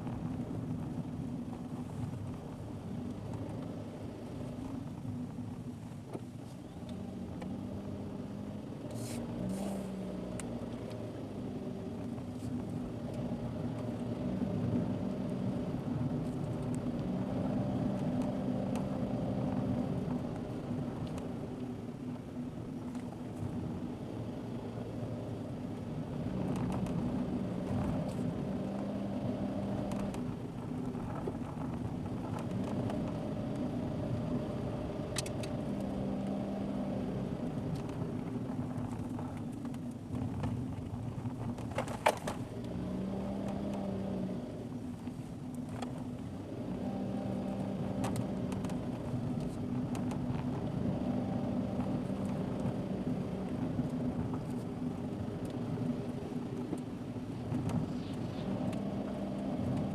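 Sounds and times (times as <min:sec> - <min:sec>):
car engine: 0:00.0 - 0:59.9.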